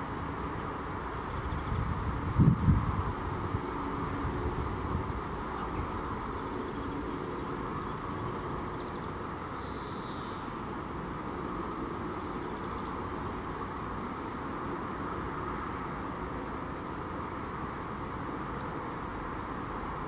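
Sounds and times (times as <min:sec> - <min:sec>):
outdoor background rumble: 0:00.0 - 0:20.0.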